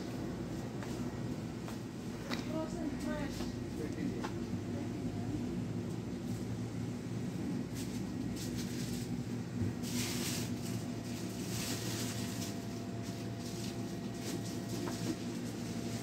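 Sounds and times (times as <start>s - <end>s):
low hum of room tone: 0.0s - 16.0s.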